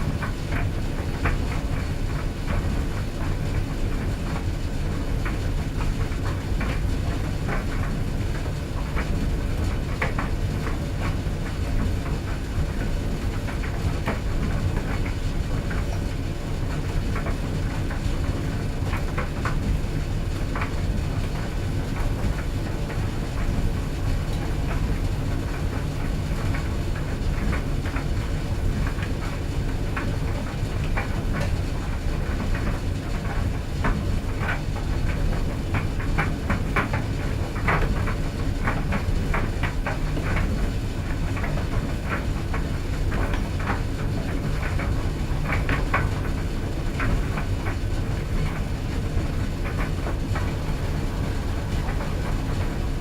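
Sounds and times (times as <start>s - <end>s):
clothes dryer rumbling: 0.0s - 53.0s.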